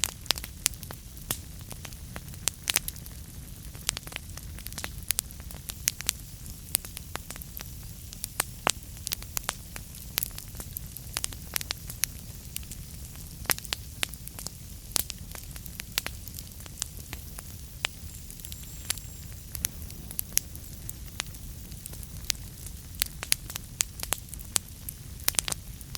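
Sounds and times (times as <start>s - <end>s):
fire crackling and popping: 0.0s - 25.9s
low rumble of flames: 0.0s - 25.9s.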